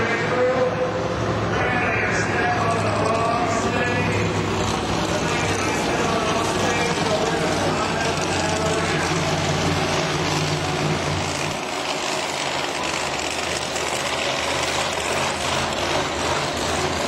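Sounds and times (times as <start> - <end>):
monster truck engines running: 0.0 - 17.0.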